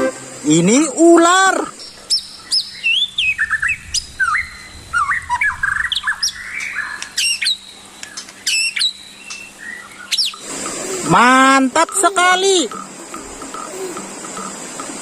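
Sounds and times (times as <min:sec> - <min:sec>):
birds chirping: 0:00.0 - 0:15.0
birds squawking: 0:00.6 - 0:15.0.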